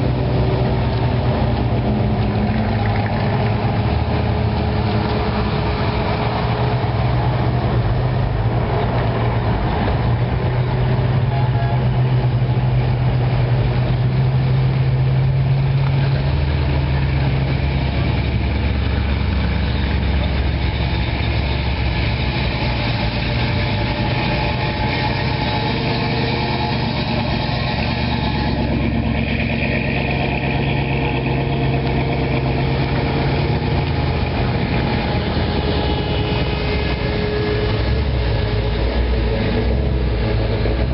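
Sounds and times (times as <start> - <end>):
car engines idling: 0.0 - 40.9
deeper engine note: 0.0 - 40.9.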